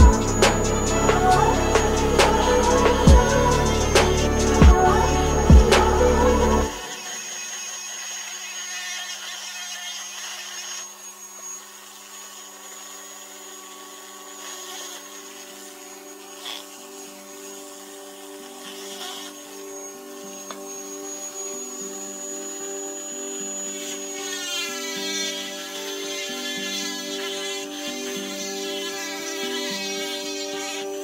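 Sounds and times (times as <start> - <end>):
rotary tool motor whine: 0.0 - 31.0.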